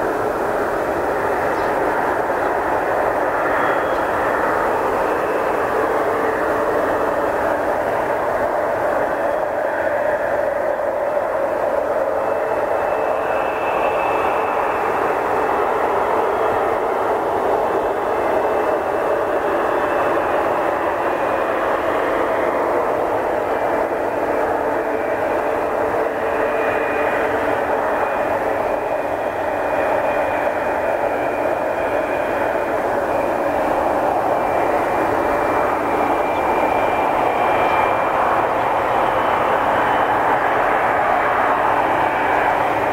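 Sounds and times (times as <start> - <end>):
jet engines rushing with whine: 0.0 - 42.9.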